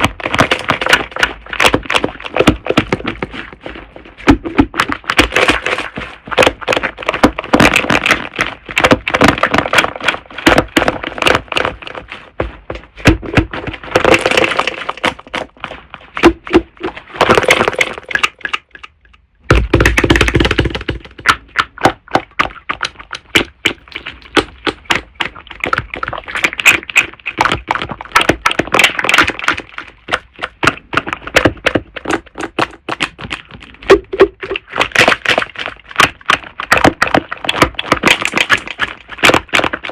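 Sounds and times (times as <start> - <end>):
slime squeezed crackling and popping: 0.0 - 39.9.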